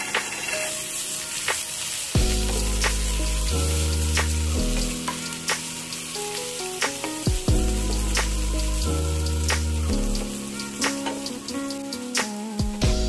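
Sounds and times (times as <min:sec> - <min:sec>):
vegetables sizzling in oil: 0:00.0 - 0:13.0
background music with deep bass: 0:02.2 - 0:13.0.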